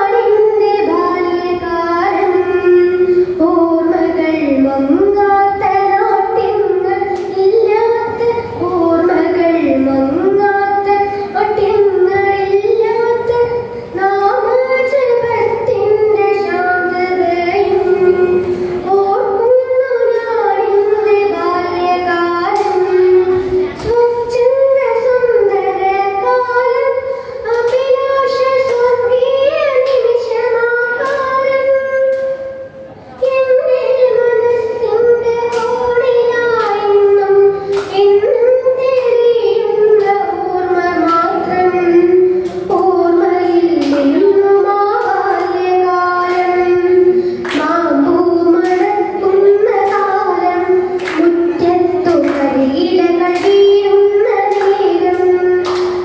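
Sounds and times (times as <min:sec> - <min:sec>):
child singing: 0:00.0 - 0:56.0.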